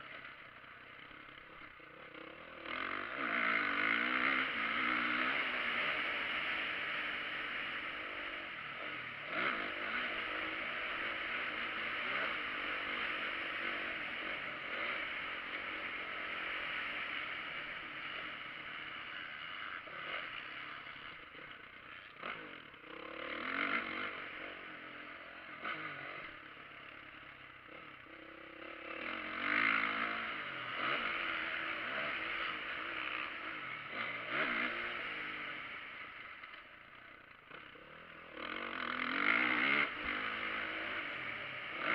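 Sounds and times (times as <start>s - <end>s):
dirt bike engine revving: 1.0s - 41.9s.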